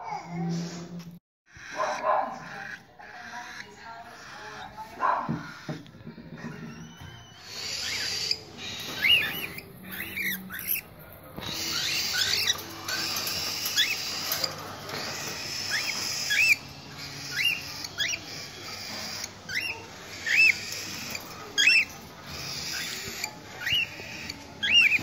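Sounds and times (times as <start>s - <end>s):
cockatiels chirping: 1.5s - 25.0s.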